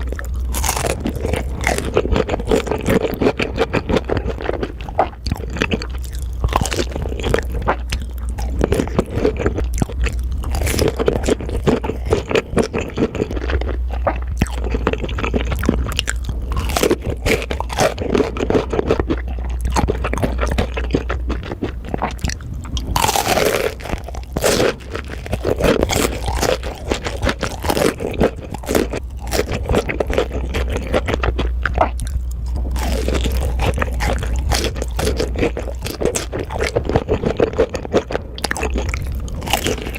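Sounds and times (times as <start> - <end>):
crunching and chewing food: 0.0 - 39.9
low hum: 0.0 - 39.9.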